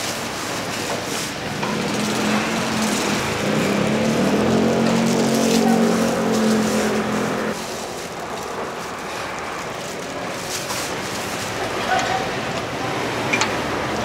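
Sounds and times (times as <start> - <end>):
busy market background: 0.0 - 14.0.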